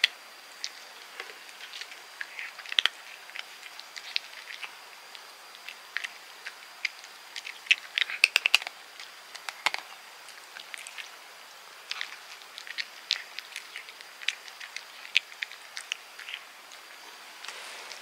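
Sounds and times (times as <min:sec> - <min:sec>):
cat crunching dry treats: 0:00.0 - 0:11.2, 0:11.8 - 0:18.0.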